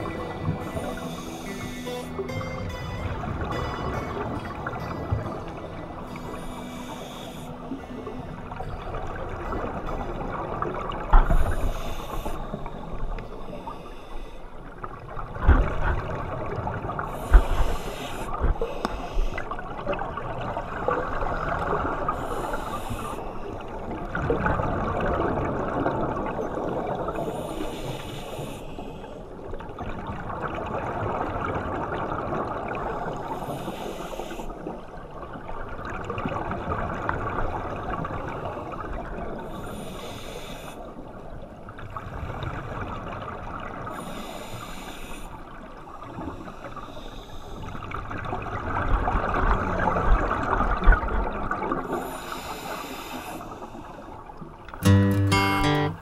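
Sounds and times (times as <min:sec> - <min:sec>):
low underwater wash: 0:00.0 - 0:55.6.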